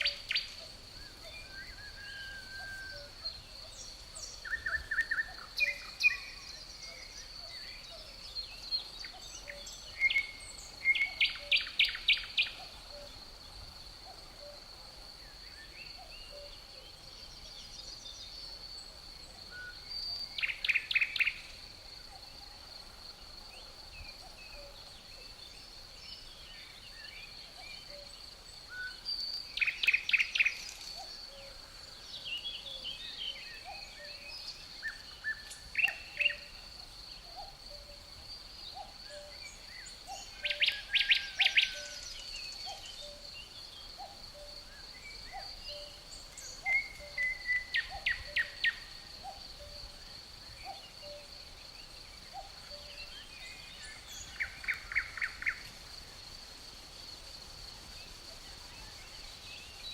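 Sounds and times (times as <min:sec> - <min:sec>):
crickets trilling: 0:00.0 - 0:59.9
songbird chirping: 0:00.0 - 0:59.9.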